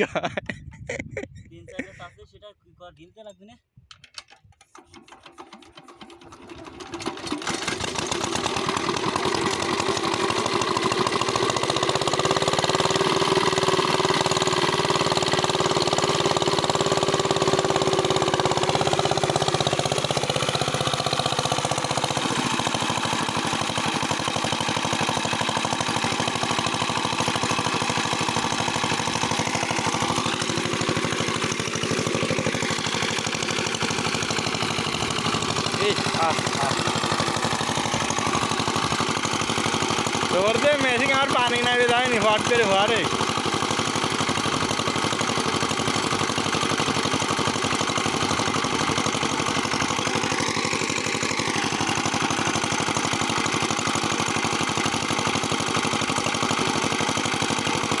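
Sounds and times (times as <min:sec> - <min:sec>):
water gushing from pump: 0:04.8 - 0:58.0
diesel engine running: 0:05.1 - 0:58.0.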